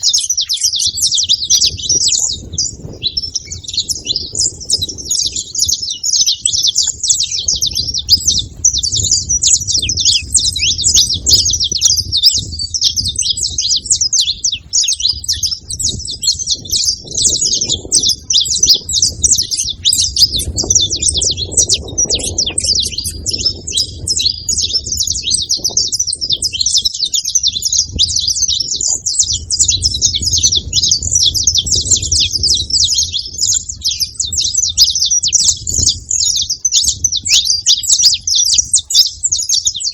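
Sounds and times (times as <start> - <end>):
finches chirping and chattering: 0.0 - 39.9.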